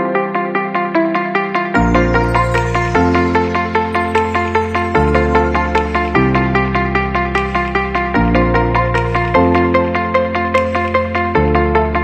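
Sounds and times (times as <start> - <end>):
electronic music with steady beat: 1.8 - 11.4.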